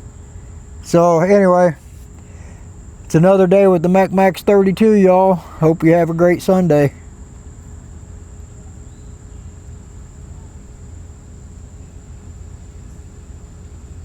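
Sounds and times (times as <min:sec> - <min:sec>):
constant low rumble: 0:00.0 - 0:14.0.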